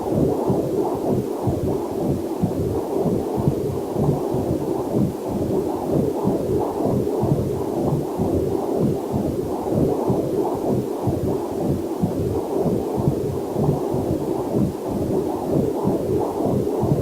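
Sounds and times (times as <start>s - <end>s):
muffled whooshing heartbeat pulses: 0.0s - 17.0s.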